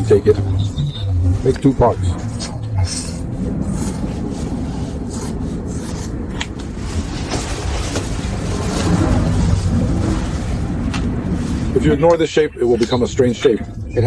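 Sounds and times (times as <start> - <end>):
wetsuit material rubbing: 0.0 - 12.1.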